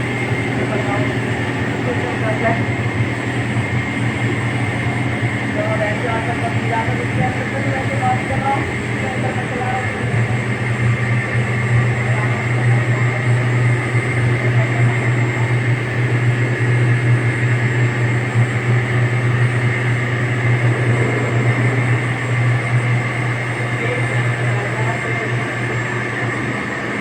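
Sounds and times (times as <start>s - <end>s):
blower fan high whine: 0.0s - 27.0s
boiler low hum: 0.0s - 27.0s.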